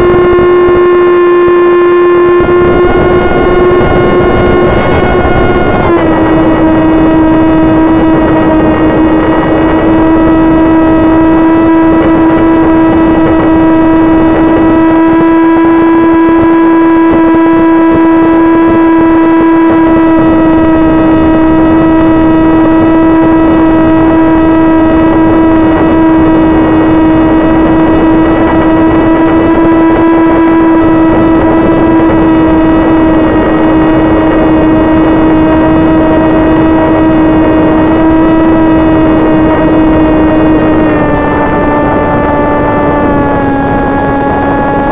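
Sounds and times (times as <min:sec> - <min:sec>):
electric motor and propeller whine: 0:00.0 - 0:44.9
wind rushing over microphone: 0:00.0 - 0:44.9.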